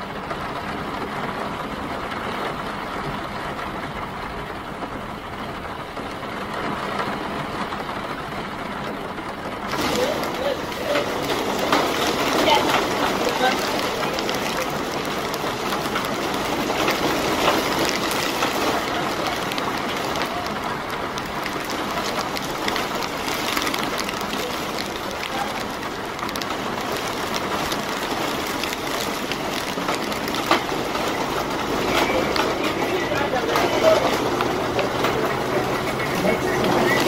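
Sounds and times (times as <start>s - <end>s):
heavy rain on an umbrella: 0.0s - 37.0s.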